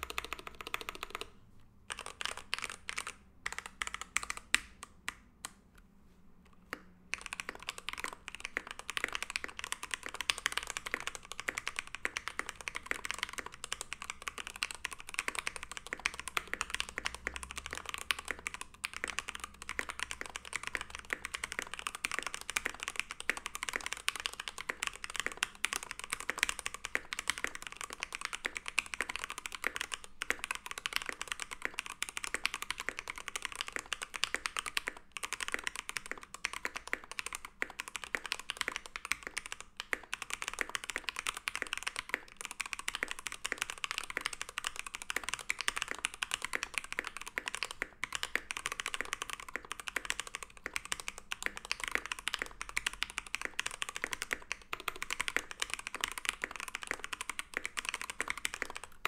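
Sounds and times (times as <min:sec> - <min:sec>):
mechanical keyboard typing: 0:00.0 - 0:04.9, 0:06.7 - 0:59.0.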